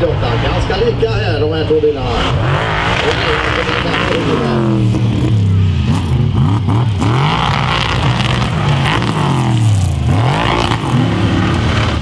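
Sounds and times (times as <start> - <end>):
monster truck engines revving: 0.0 - 12.0.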